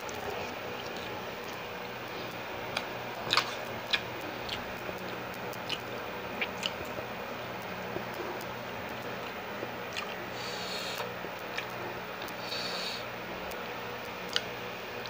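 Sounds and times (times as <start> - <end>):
wet chewing mouth noises: 0.0 - 15.0.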